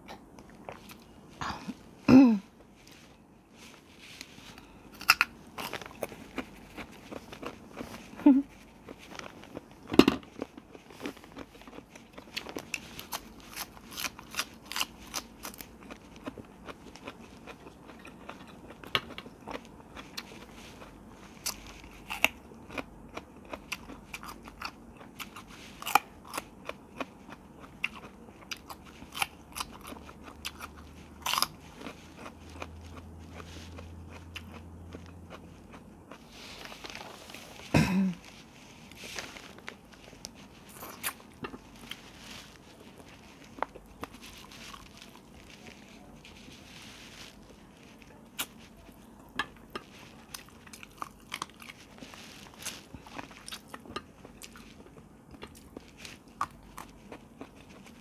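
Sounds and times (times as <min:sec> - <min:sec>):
crunching raw vegetables: 0:02.8 - 0:58.0.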